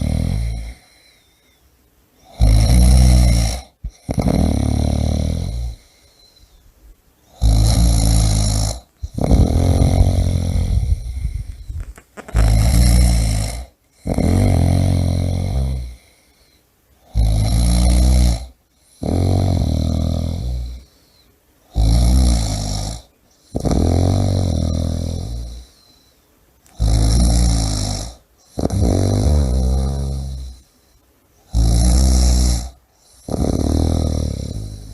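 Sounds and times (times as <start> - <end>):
person snoring: 0.0 - 1.3, 2.2 - 6.1, 7.3 - 16.4, 17.0 - 21.0, 21.7 - 25.9, 26.7 - 30.7, 31.4 - 34.9.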